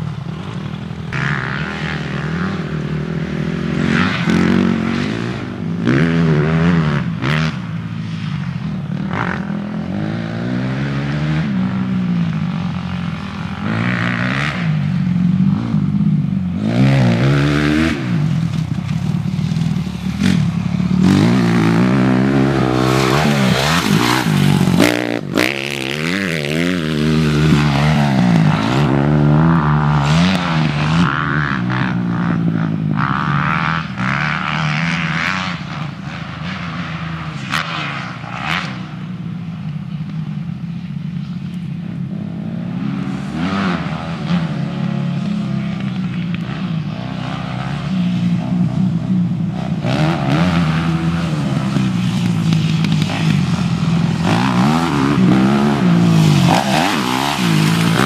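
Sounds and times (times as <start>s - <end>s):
dirt bike engine revving: 0.0s - 8.2s, 8.8s - 39.1s, 42.1s - 58.0s.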